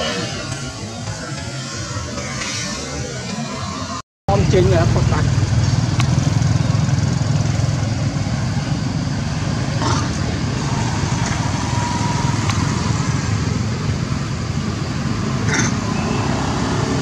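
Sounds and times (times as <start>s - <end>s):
motorbikes passing: 0.0s - 17.0s.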